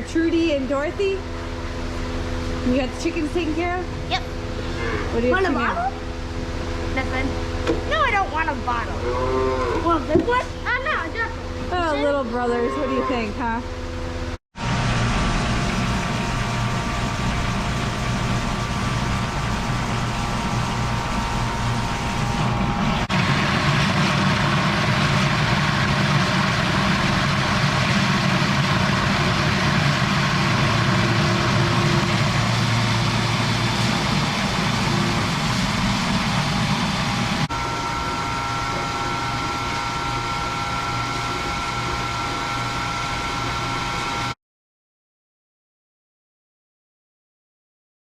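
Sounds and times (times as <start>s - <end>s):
motor running steadily: 0.0s - 44.4s.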